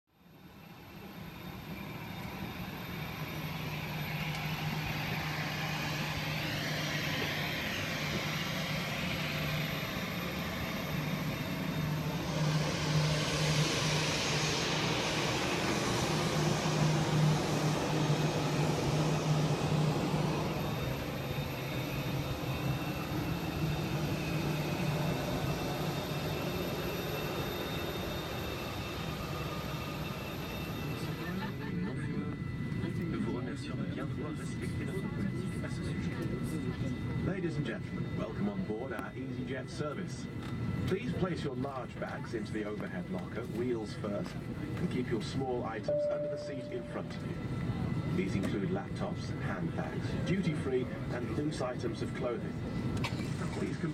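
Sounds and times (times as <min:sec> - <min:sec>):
jet aircraft noise: 0:00.2 - 0:53.9
airliner cabin hum: 0:00.8 - 0:39.4, 0:45.9 - 0:53.9.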